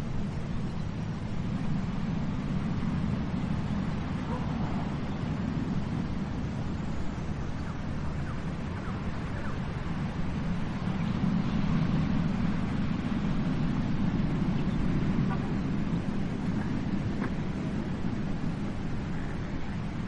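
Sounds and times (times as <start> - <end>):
ocean waves washing on beach: 0.0 - 20.0.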